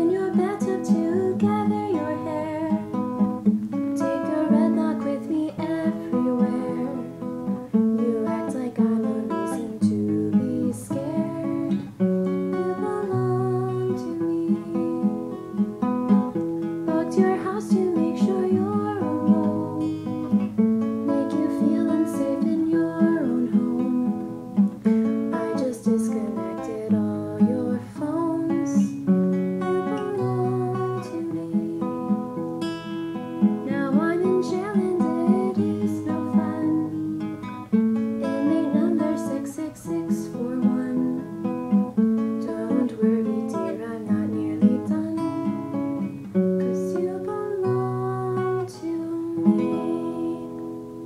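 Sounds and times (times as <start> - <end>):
acoustic guitar strumming: 0.0 - 51.0
woman singing: 0.0 - 51.0.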